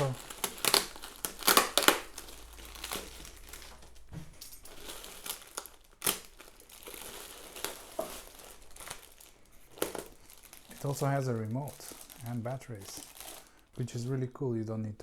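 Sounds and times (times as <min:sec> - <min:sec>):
packaging crinkling: 0:00.0 - 0:14.2.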